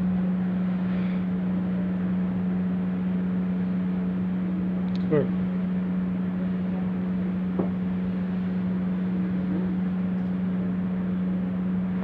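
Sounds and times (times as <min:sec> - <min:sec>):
motor or fan humming: 0:00.0 - 0:12.0.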